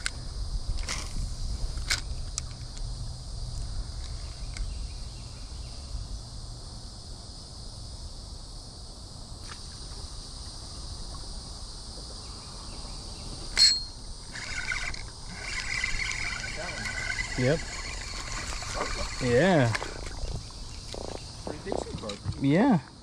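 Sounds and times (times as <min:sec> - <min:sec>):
low wind rumble: 0:00.0 - 0:09.4, 0:10.0 - 0:23.0
high-pitched insect drone: 0:00.0 - 0:23.0.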